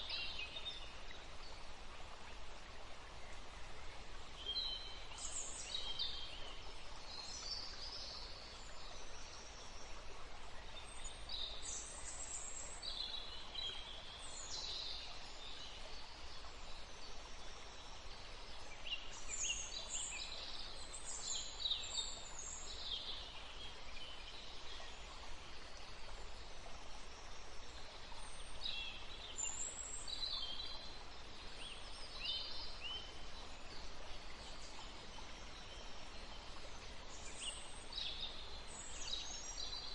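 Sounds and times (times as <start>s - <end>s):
forest background hiss: 0.0s - 39.9s.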